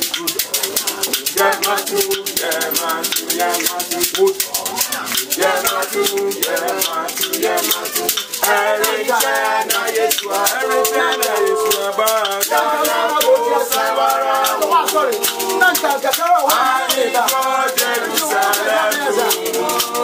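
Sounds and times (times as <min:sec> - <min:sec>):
shaker rattle: 0:00.0 - 0:20.0
voices singing: 0:00.0 - 0:20.0.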